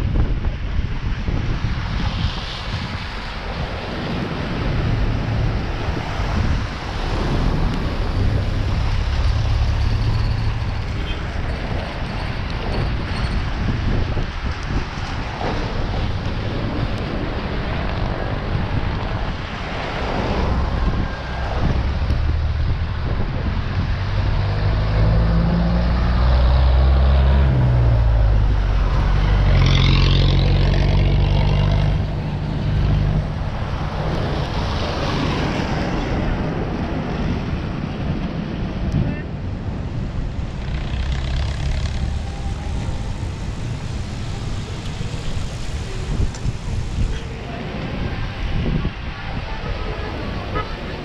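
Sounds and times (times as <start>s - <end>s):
wind and road noise: 0.0s - 51.0s.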